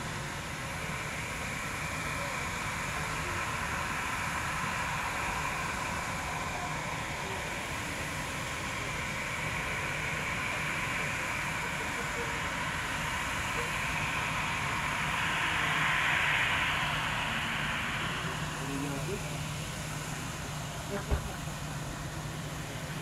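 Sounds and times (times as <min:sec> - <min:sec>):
jet engines whining: 0:00.0 - 0:23.0.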